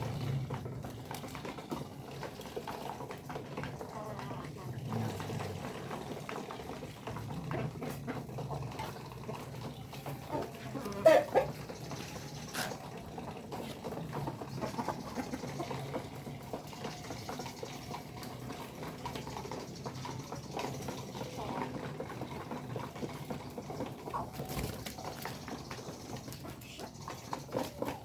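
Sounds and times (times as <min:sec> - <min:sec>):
chickens clucking softly: 0:00.0 - 0:28.0.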